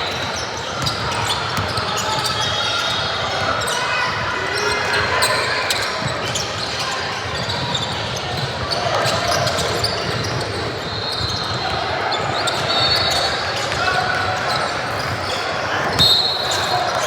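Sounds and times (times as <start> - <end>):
crowd and player voices: 0.0 - 17.0.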